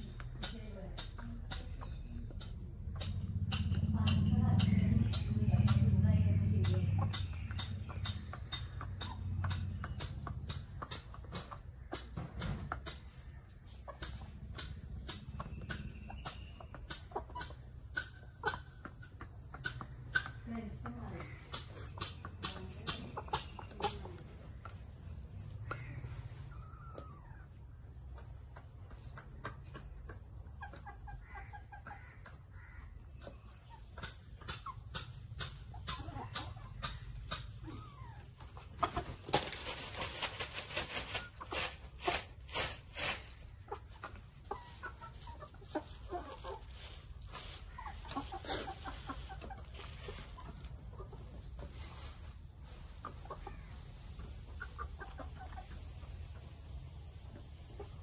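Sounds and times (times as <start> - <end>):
chickens clucking softly: 0.0 - 58.0.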